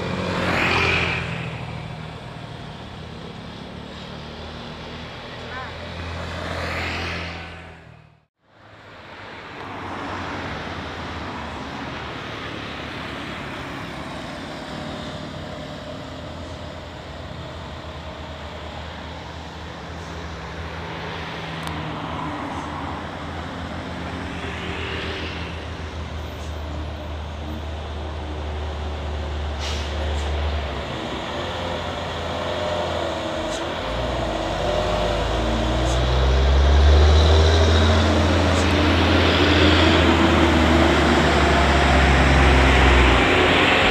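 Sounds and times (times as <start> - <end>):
low drone of engines: 0.0 - 43.9.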